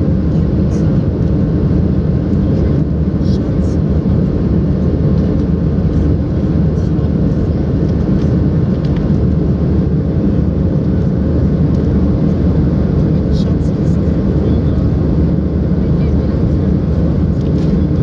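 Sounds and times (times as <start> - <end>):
jet engine roar in cabin: 0.0 - 18.0.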